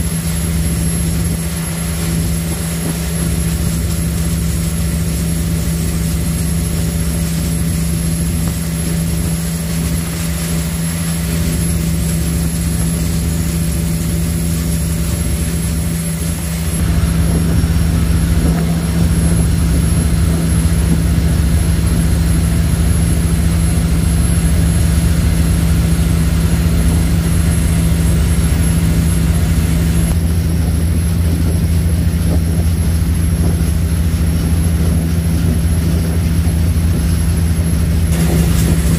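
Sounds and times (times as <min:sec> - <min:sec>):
ferry engine drone: 0:00.0 - 0:38.9.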